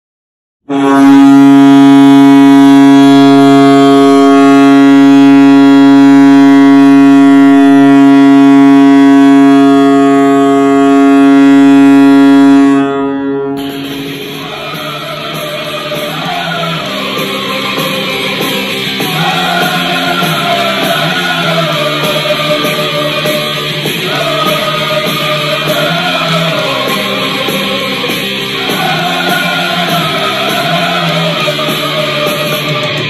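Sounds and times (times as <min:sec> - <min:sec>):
hockey goal horn blast: 0:00.7 - 0:32.8.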